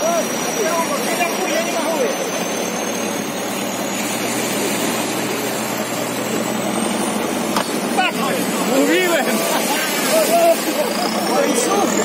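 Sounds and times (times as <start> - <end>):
car engine under load: 0.0 - 12.0
surf rushing: 0.0 - 12.0
wind: 0.0 - 12.0.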